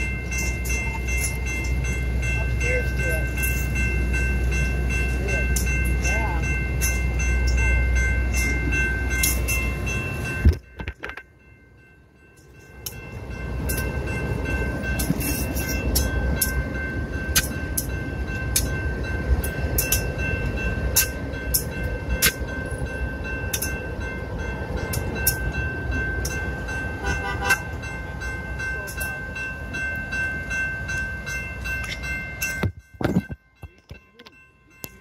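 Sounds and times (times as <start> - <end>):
crossing warning bell ringing: 0.0 - 35.0
train wheels rumbling on rail: 0.0 - 35.0.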